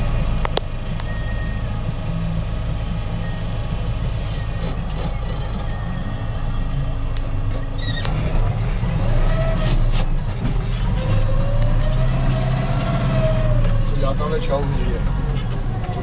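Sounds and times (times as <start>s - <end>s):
heavy vehicle engine drone: 0.0s - 16.0s.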